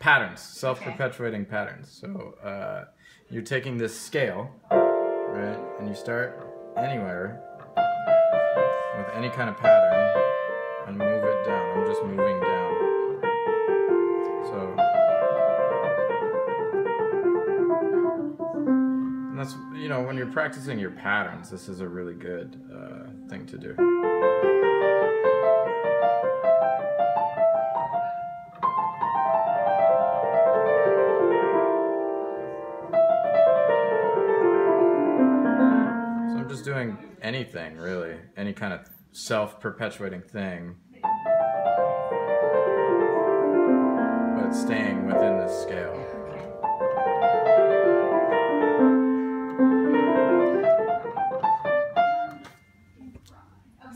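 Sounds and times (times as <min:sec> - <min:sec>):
piano playing descending patterns: 0:04.2 - 0:37.0, 0:41.0 - 0:53.0.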